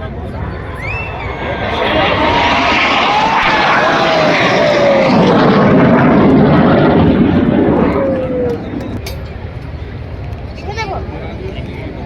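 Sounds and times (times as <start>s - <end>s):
low aircraft engine roar: 0.0s - 12.0s.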